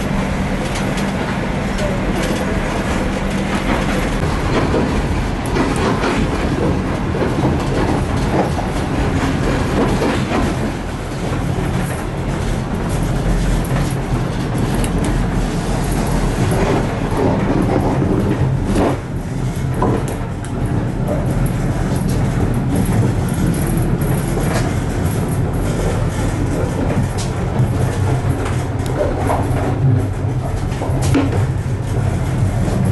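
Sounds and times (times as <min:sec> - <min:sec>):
train rumble: 0:00.0 - 0:32.9
wheels clicking over rails: 0:00.0 - 0:32.9.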